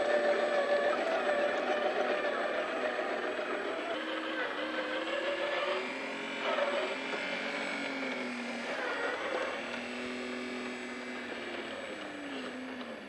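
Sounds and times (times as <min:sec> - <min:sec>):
toy truck electric motor whining: 0:00.0 - 0:13.0.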